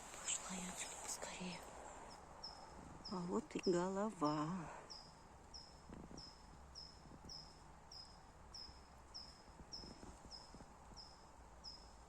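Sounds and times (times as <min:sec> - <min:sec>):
faint forest background: 0:00.0 - 0:12.0.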